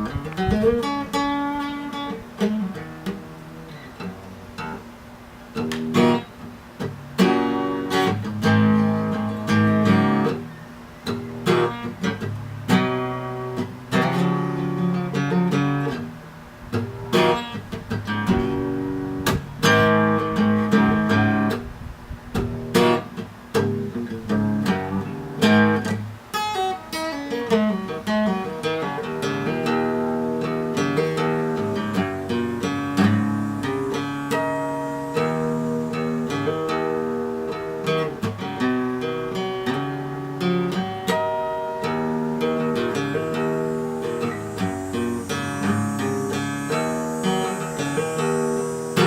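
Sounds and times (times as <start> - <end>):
acoustic guitar playing: 0.0 - 49.0.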